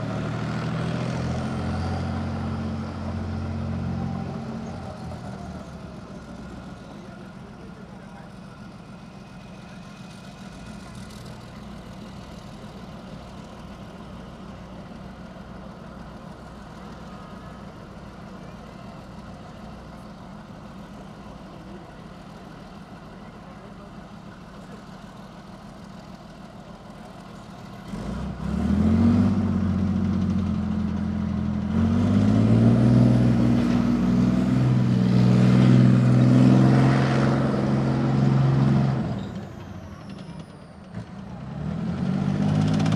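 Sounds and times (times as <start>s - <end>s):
tank diesel engine idling and revving: 0.0s - 42.9s.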